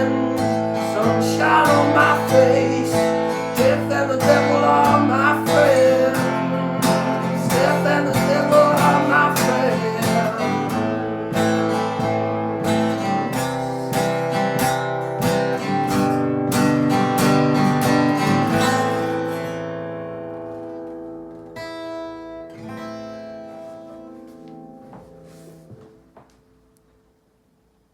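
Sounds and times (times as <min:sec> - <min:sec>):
acoustic guitar strumming chords: 0:00.0 - 0:27.1.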